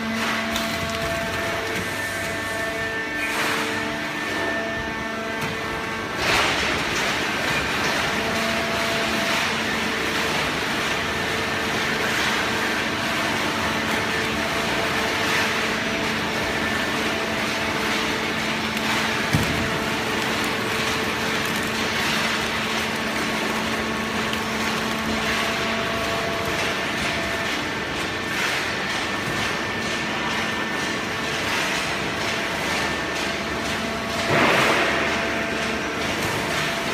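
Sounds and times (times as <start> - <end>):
hydraulic baling press running: 0.0 - 36.9.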